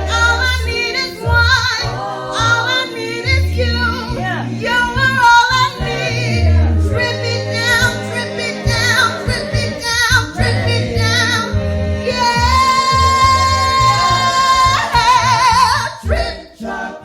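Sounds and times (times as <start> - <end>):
woman singing lead with vibrato: 0.0 - 16.7
low bass vocal line: 0.0 - 17.0
vocal group harmonies: 0.0 - 17.0.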